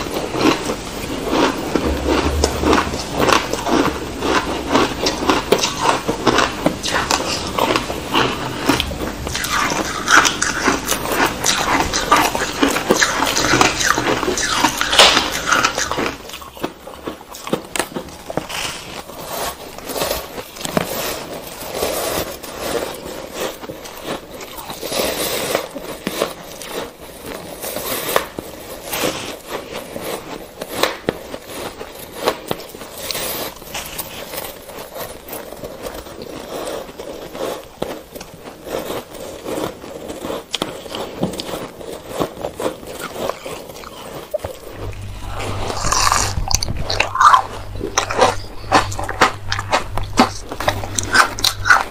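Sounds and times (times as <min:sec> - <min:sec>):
shaved ice crunching: 0:00.0 - 0:51.9.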